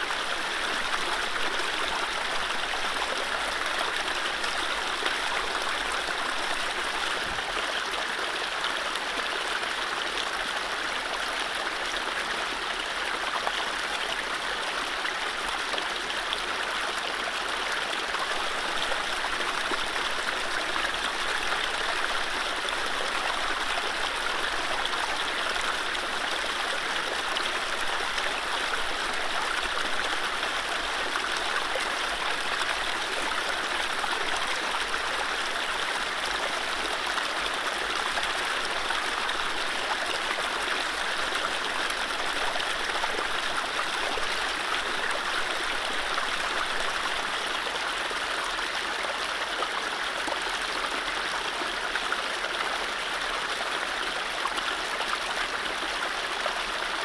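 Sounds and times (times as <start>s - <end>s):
stream running over rapids: 0.0s - 57.0s.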